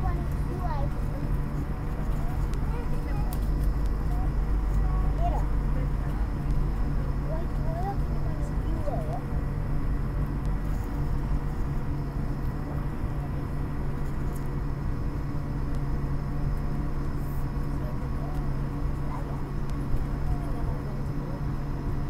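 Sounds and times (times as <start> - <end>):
low aircraft cabin hum: 0.0 - 22.0.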